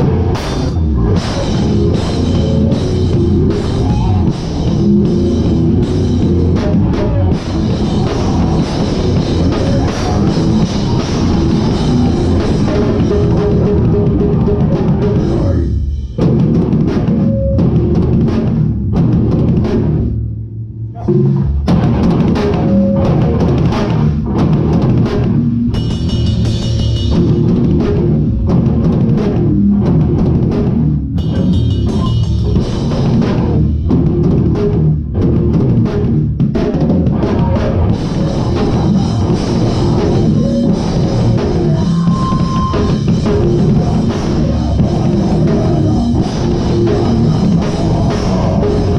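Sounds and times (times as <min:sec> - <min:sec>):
hardcore band playing live: 0:00.0 - 0:20.1, 0:21.0 - 0:48.9.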